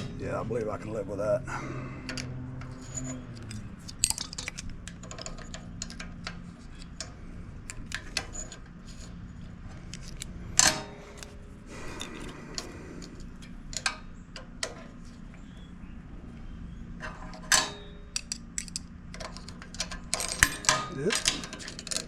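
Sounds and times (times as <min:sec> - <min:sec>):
hand tools clinking on metal: 0:00.0 - 0:15.6, 0:17.0 - 0:22.0.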